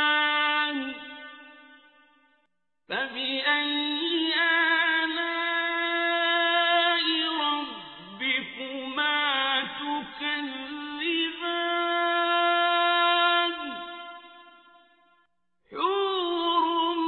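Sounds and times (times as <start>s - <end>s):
man reciting melodically: 0.0s - 1.5s, 2.9s - 14.8s, 15.7s - 17.0s.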